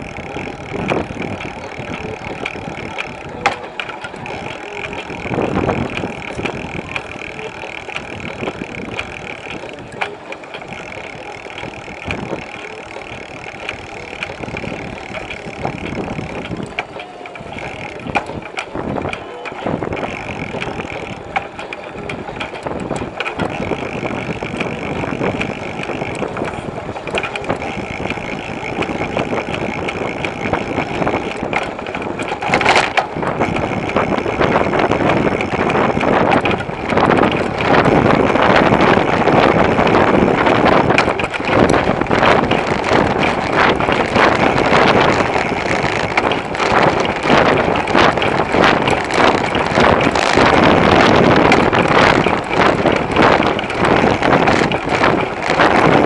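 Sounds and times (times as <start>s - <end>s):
tyre and road noise: 0.0s - 56.0s
wind rushing over microphone: 0.0s - 56.0s.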